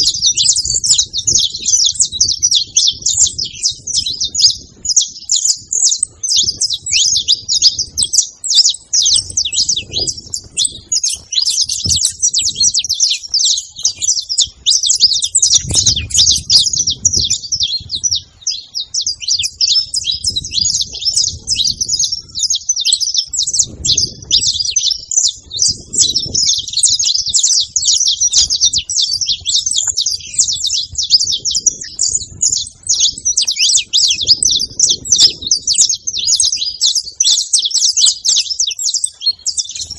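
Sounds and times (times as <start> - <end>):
finch singing chirps and trills: 0.0 - 39.9.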